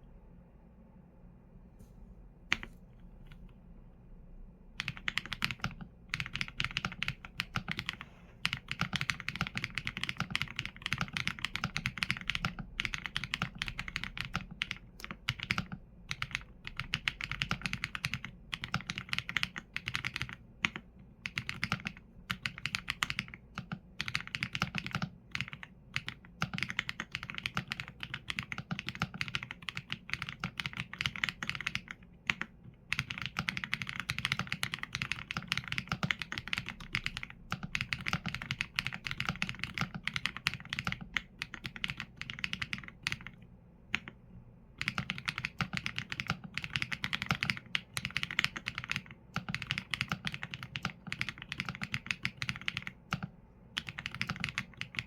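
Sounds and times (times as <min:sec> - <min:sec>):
mechanical keyboard typing: 0:04.8 - 0:44.2, 0:44.8 - 0:55.0.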